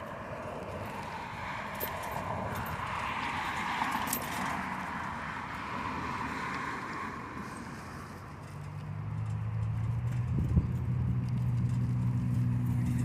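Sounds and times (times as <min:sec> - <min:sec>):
bicycle riding rushing noise: 0:00.0 - 0:13.0.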